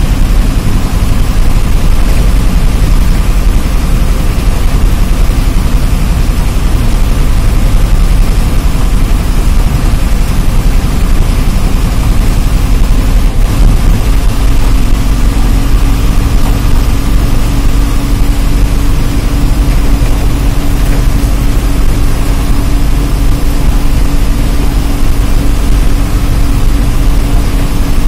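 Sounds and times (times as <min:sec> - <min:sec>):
bus diesel engine rumble: 0:00.0 - 0:28.0
road noise: 0:00.0 - 0:28.0
steady hum: 0:00.0 - 0:28.0.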